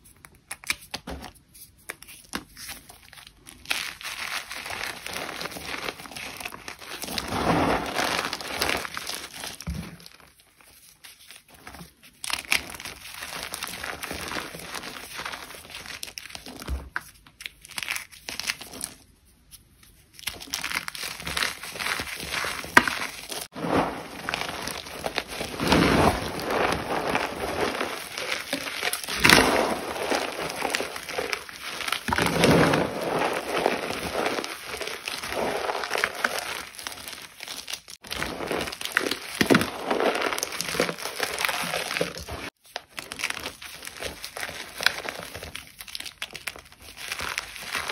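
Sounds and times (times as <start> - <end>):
chalk crunching and crackling: 1.9 - 47.9.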